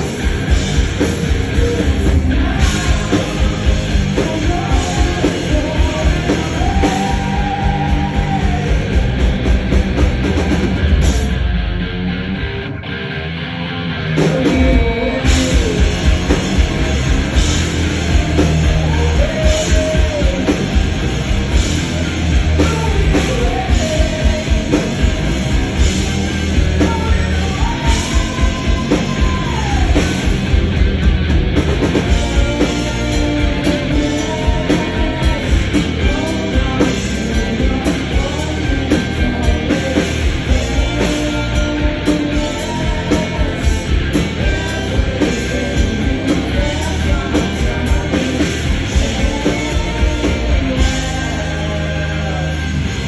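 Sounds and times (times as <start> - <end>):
man singing lead vocal: 0.0 - 9.7, 14.1 - 30.8, 31.8 - 53.0
drum kit beat: 0.0 - 11.5, 14.2 - 53.0
bass guitar: 0.0 - 53.0
distorted electric guitar: 0.0 - 53.0.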